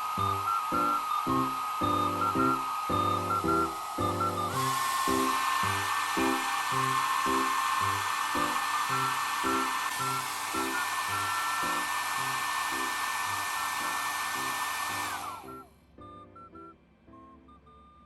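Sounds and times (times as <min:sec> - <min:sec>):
hair dryer running: 0:00.0 - 0:15.6
motor spinning down: 0:00.0 - 0:15.6.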